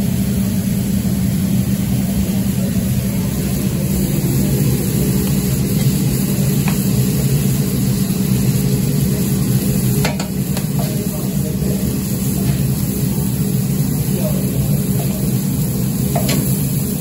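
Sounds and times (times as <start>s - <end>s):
chicken sizzling on a griddle: 0.0s - 17.0s
steady low hum: 0.0s - 17.0s.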